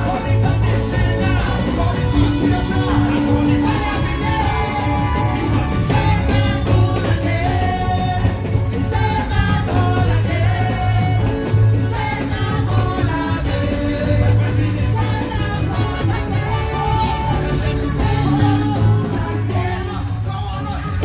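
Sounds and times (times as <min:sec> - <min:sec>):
live band music with heavy bass: 0:00.0 - 0:21.0
man singing into microphone: 0:00.0 - 0:21.0.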